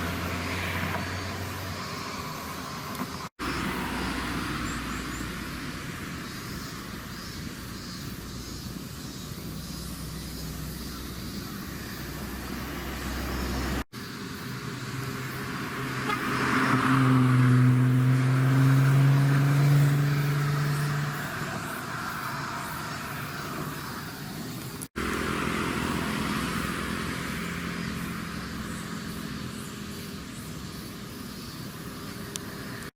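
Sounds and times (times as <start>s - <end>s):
car engine: 0.0s - 8.6s, 10.0s - 30.7s
car engine approaching: 0.0s - 32.9s.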